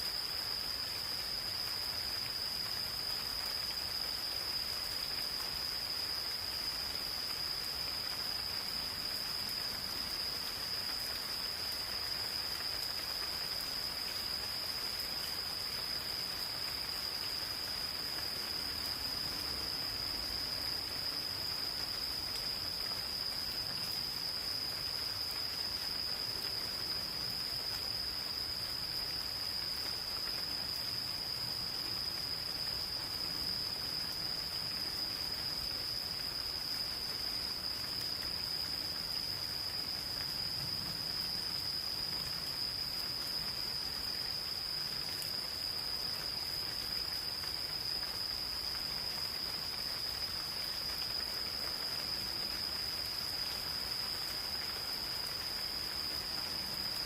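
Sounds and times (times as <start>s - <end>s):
insects trilling: 0.0s - 57.0s
light rain hissing: 0.0s - 57.0s.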